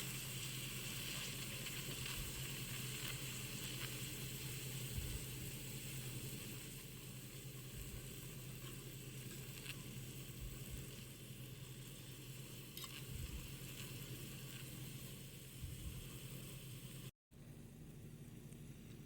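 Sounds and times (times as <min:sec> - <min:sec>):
dough sizzling in hot oil: 0:00.0 - 0:17.2.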